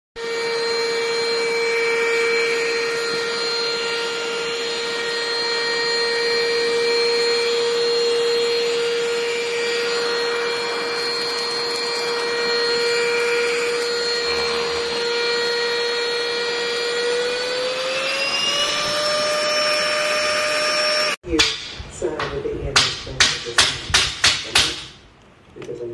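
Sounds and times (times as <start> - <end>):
handheld vacuum cleaner running: 0.2 - 21.2.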